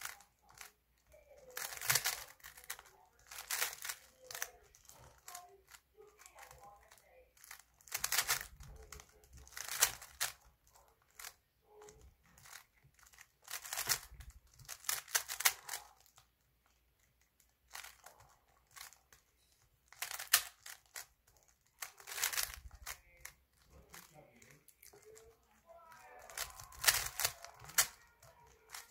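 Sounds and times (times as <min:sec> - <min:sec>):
puzzle cube clicking when turned: 0:00.0 - 0:24.1, 0:26.2 - 0:28.9.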